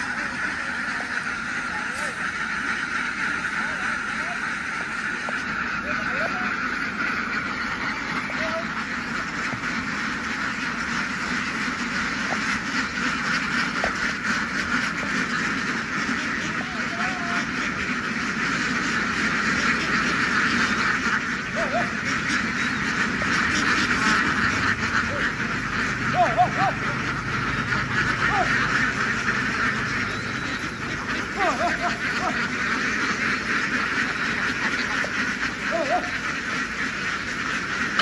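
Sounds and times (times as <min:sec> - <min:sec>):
ducks quacking: 0:00.0 - 0:38.0.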